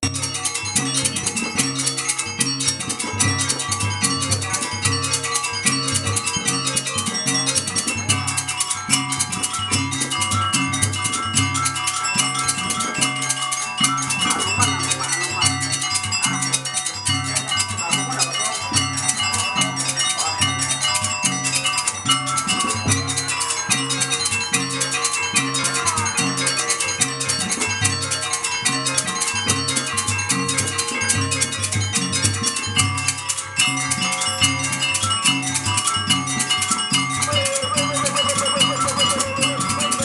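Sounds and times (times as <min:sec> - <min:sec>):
ringing metal percussion: 0:00.0 - 0:40.0.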